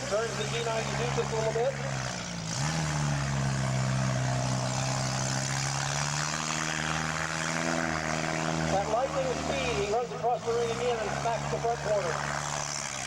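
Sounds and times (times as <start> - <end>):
mini car engines running hard: 0.0 - 13.0.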